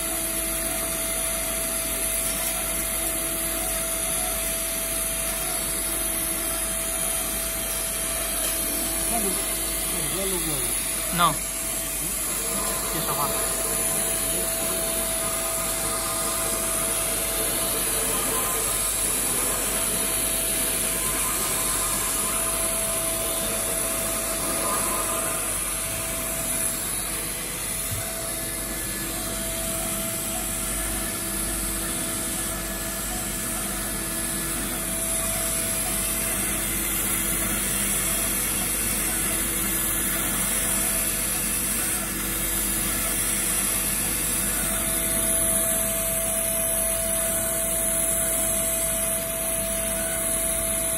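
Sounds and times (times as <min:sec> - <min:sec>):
router spindle high whine: 0:00.0 - 0:50.9
steady machine hum: 0:00.0 - 0:50.9.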